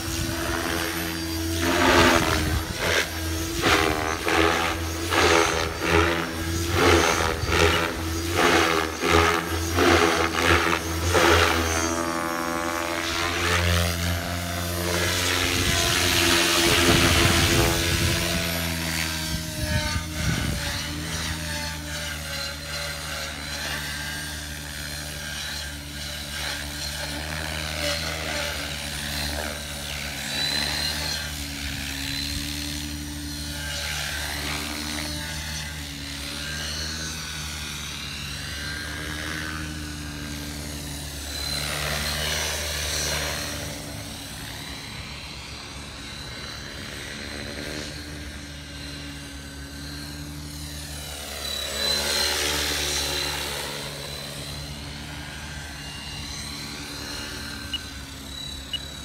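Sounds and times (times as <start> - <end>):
electric motor whine: 0.0 - 59.0
helicopter rotor blades droning: 0.0 - 59.0.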